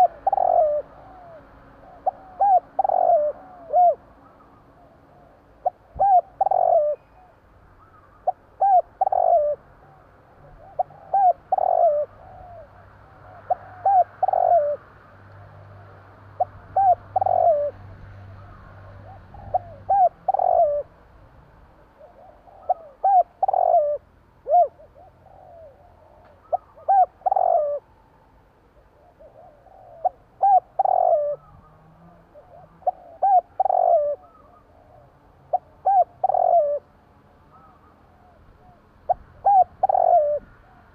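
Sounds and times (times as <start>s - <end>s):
dove cooing: 0.0s - 21.1s, 21.7s - 27.9s, 28.8s - 40.9s.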